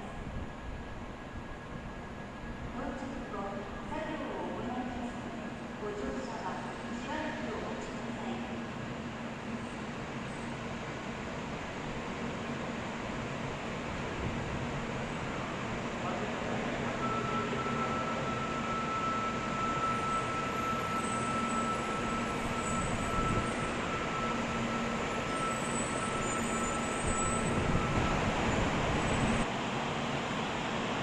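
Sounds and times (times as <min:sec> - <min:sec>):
train rumble and hiss: 0:00.0 - 0:31.0.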